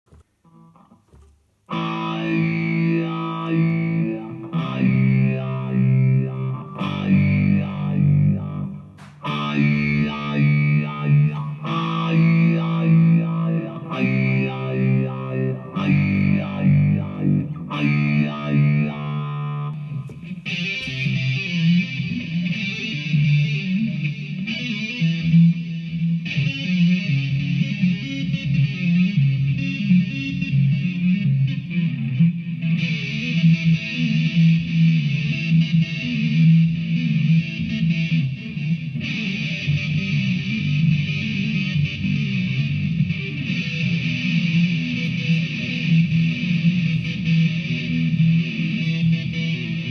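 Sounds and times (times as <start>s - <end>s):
distorted electric guitar chords: 0.1s - 49.9s.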